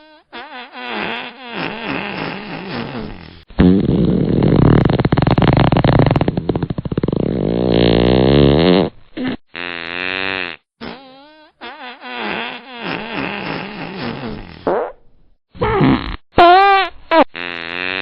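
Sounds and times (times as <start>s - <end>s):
farting: 0.0s - 15.0s, 15.6s - 18.0s.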